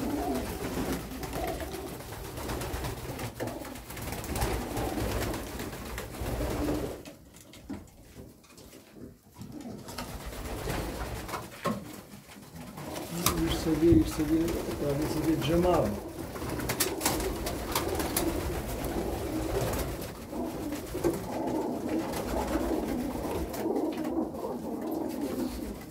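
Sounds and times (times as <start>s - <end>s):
pigeons cooing: 0.0s - 7.6s, 8.6s - 25.9s.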